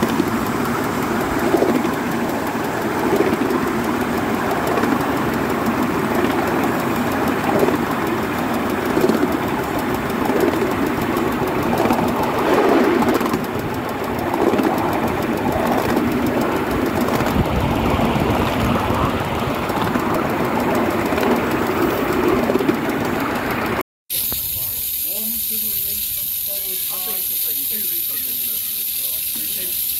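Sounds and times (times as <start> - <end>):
miniature steam locomotive running: 0.0 - 29.9.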